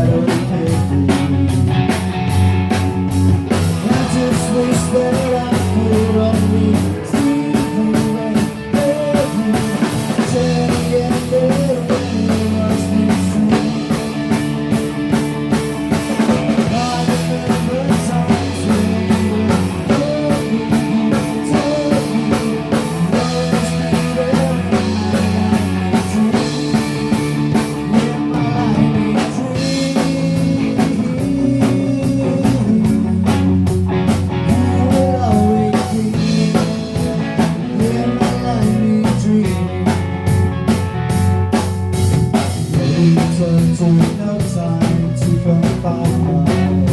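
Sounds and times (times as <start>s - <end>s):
bass guitar: 0.0s - 46.9s
drum kit beat: 0.0s - 46.9s
electric guitar: 0.0s - 46.9s.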